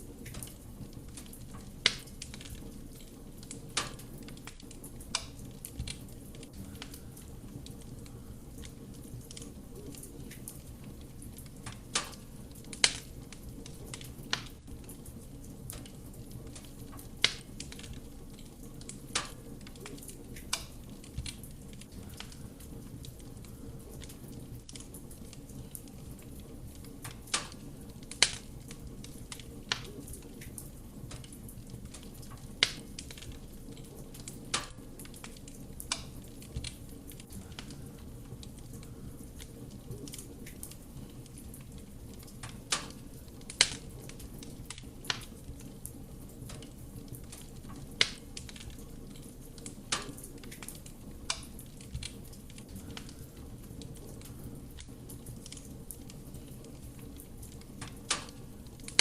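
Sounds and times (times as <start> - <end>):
burning logs crackling and popping: 0.0 - 59.0
low rumble of flame: 0.0 - 59.0.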